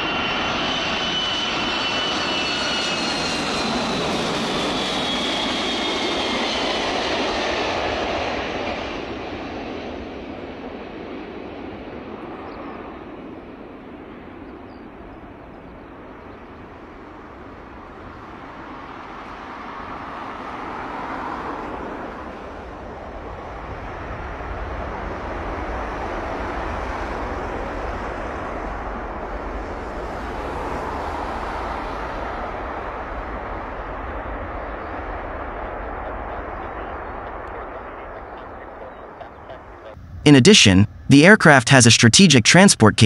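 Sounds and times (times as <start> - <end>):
jet engines rushing: 0.0 - 43.0.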